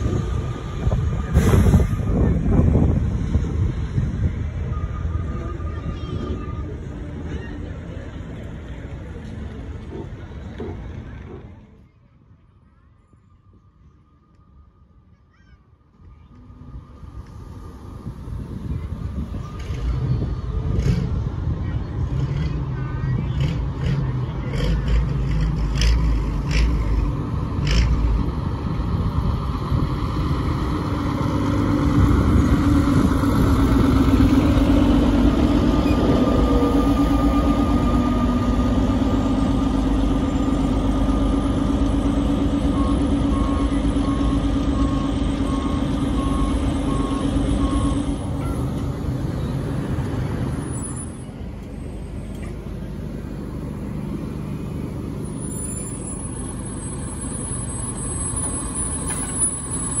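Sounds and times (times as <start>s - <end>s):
fire truck engines running: 0.0s - 60.0s.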